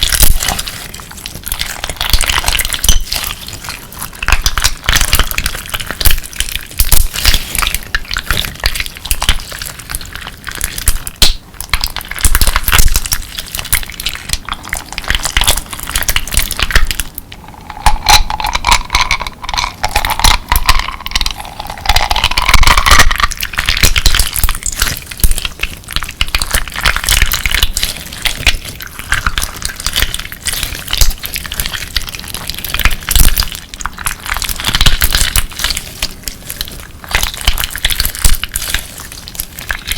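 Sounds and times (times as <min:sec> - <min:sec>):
slime crunching and crackling: 0:00.0 - 0:39.9.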